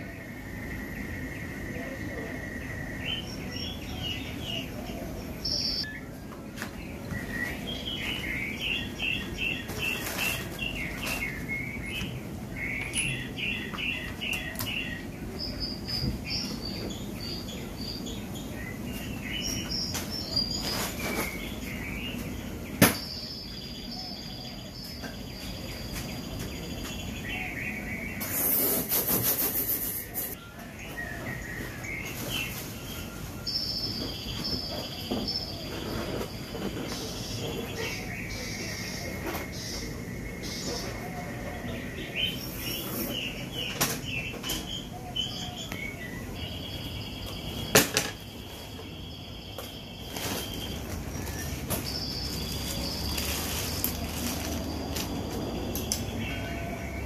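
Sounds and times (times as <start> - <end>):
birds chirping and singing: 0.0 - 57.0
low background noise: 0.0 - 57.0.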